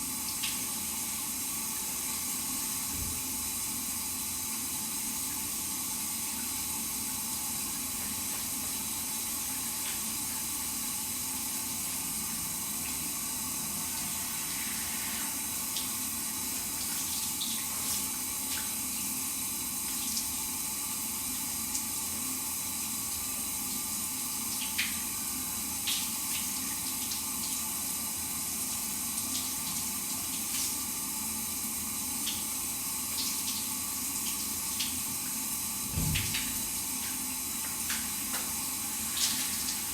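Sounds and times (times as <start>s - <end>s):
shower running: 0.0s - 39.9s.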